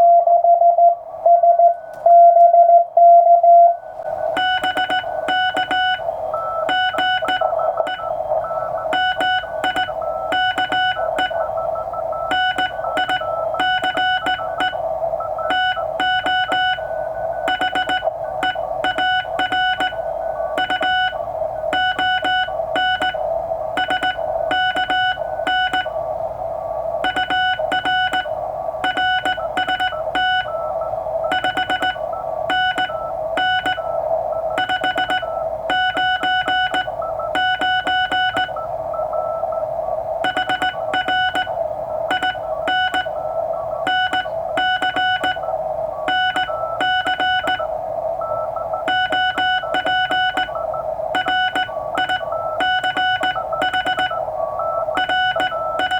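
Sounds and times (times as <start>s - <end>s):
morse code tone: 0.0s - 55.9s
receiver noise hiss: 0.0s - 55.9s.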